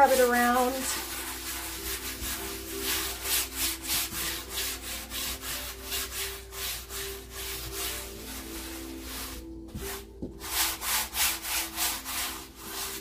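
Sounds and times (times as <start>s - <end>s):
hand rubbing paint on canvas: 0.0s - 13.0s.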